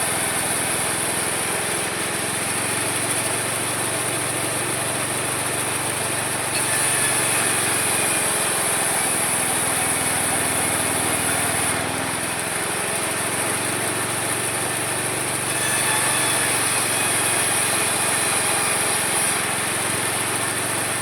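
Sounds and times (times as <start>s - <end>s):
small engine running with whine: 0.0s - 21.0s.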